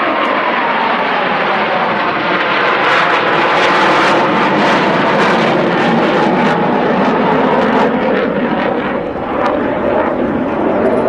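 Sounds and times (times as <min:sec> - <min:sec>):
jet noise overhead: 0:00.0 - 0:11.0.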